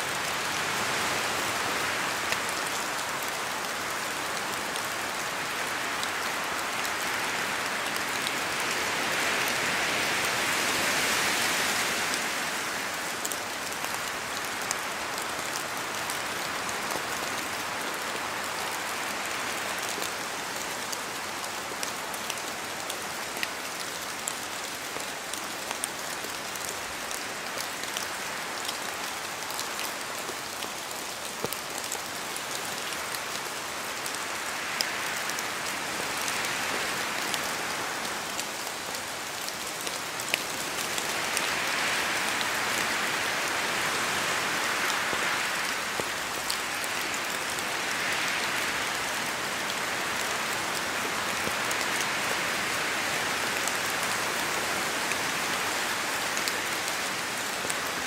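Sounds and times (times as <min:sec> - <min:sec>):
steady rain falling: 0:00.0 - 0:58.0
wind through trees: 0:00.0 - 0:58.0.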